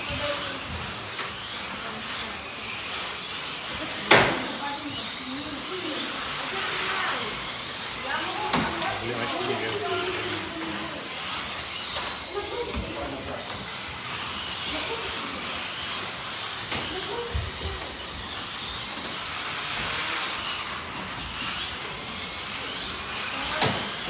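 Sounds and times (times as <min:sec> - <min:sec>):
slot cars whirring: 0:00.0 - 0:24.0.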